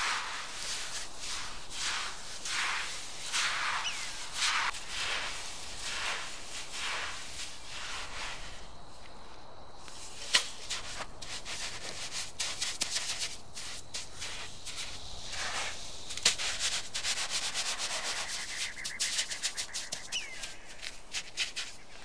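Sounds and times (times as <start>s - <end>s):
salt crunching and scraping: 0.0s - 9.2s, 9.8s - 22.0s.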